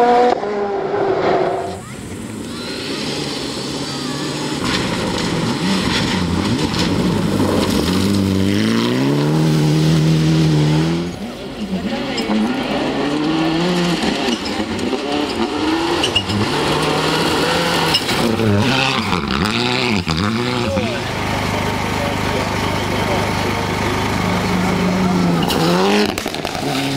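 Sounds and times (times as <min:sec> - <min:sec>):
rally car engine accelerating: 0:00.0 - 0:26.9
rally car engine revving: 0:00.0 - 0:26.9.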